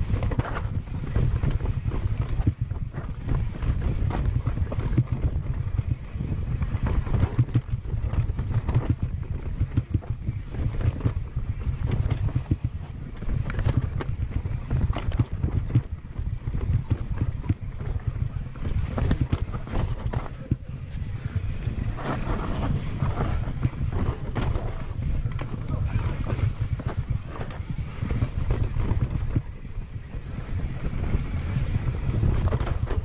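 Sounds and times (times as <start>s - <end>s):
mountain bike rattling: 0.0s - 33.0s
wind rumble on microphone: 0.0s - 33.0s.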